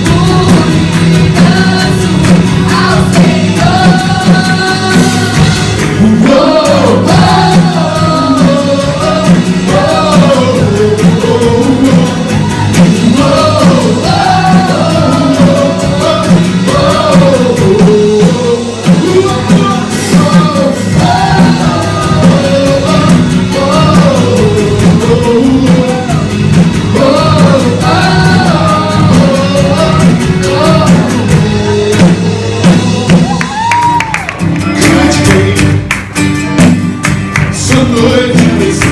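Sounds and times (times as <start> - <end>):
gospel singing: 0.0 - 36.1, 37.3 - 38.9
band accompaniment: 0.0 - 38.9.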